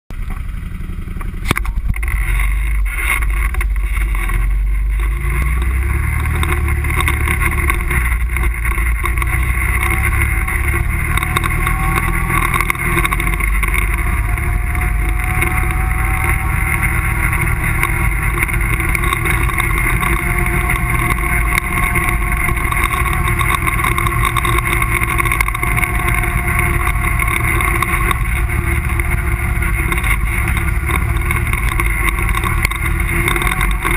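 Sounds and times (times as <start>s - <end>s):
quad bike engine running: 0.1s - 33.9s.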